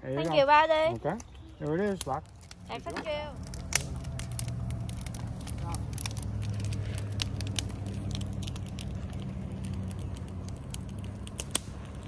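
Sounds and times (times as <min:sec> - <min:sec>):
campfire pops and snaps: 0:00.0 - 0:12.0
fire low rumble: 0:00.0 - 0:12.0.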